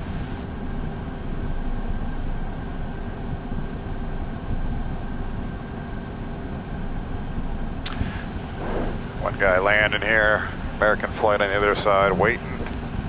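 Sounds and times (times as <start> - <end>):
faint steady whine: 0.0 - 13.0
jet engine cockpit rumble: 0.0 - 13.0.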